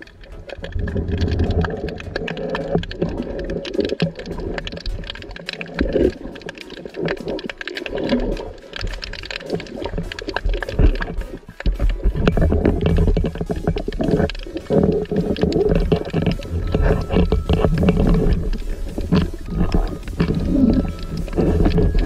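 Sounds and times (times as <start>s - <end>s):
irregular crackling clicks: 0.0s - 22.0s
muffled churning water: 0.0s - 22.0s.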